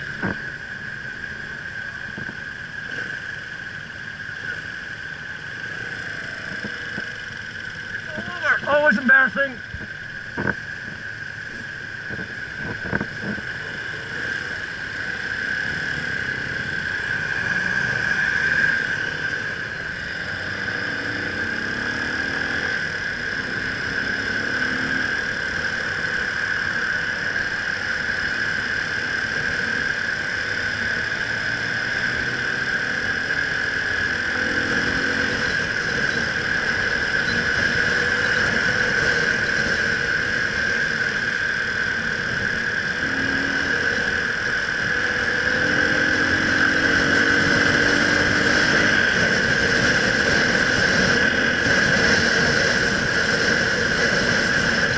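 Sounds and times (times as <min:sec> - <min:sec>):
high-pitched whine: 0:00.0 - 0:54.9
motorcycle engine revving: 0:00.0 - 0:54.9.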